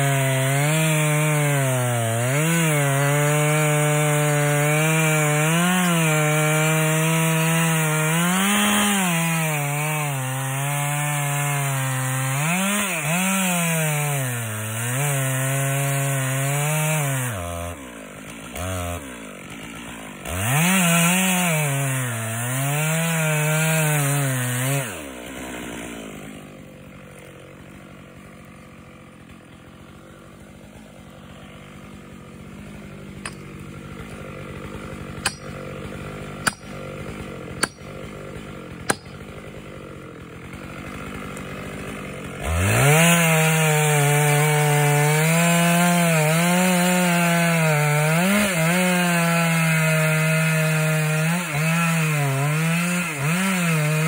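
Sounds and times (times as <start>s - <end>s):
chainsaw cutting: 0.0s - 54.0s.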